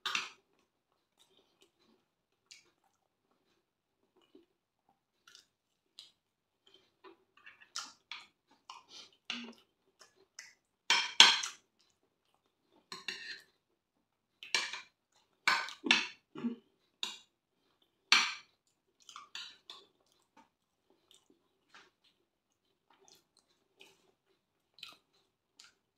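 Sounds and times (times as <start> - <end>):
chewing: 0.1 - 10.7, 11.5 - 13.7, 14.3 - 25.9.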